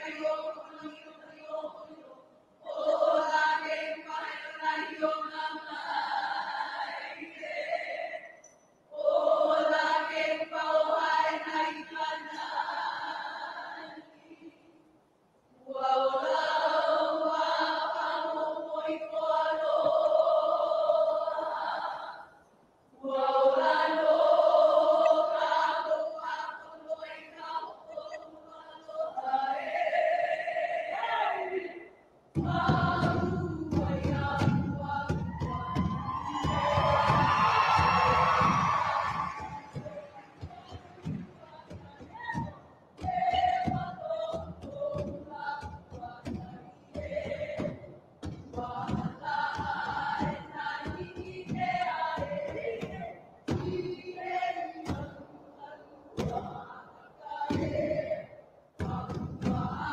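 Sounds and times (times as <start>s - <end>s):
women chanting in unison: 0.0s - 14.6s, 15.6s - 22.4s, 23.0s - 47.9s, 48.5s - 59.9s.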